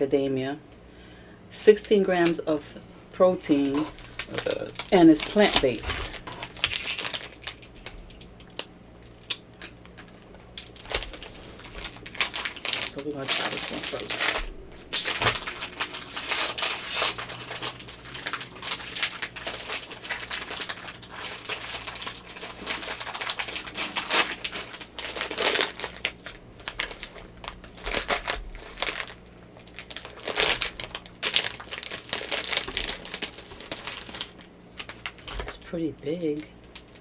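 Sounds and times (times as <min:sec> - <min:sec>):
plastic wrapper crinkling: 0:03.4 - 0:37.0.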